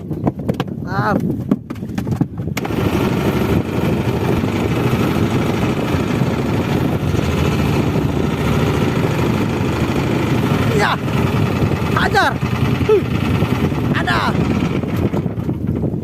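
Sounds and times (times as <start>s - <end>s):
boat engine running: 2.5s - 16.0s.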